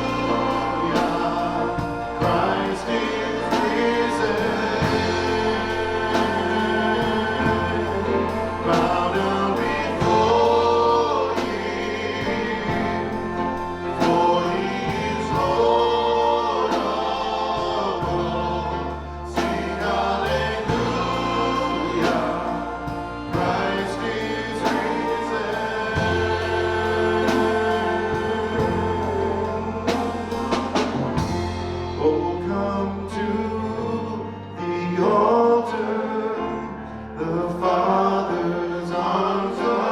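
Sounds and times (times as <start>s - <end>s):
band with bass and beat: 0.0s - 33.3s
choir singing worship song: 0.0s - 39.9s.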